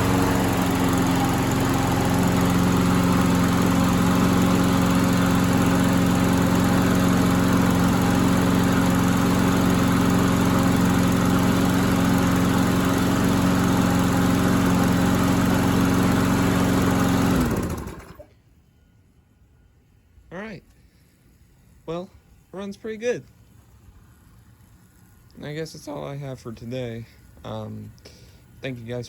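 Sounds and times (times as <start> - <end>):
lawn mower engine running: 0.0 - 18.3, 21.1 - 29.0.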